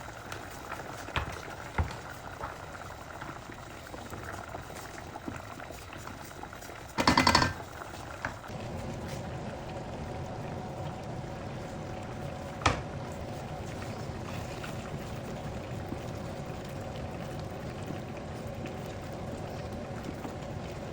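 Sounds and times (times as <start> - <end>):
risotto simmering and bubbling: 0.0 - 20.9.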